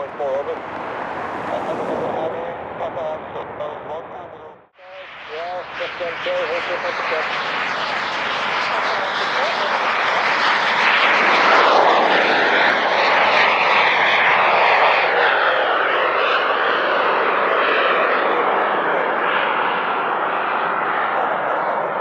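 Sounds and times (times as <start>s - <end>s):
jet engines roaring past: 0.0s - 22.0s.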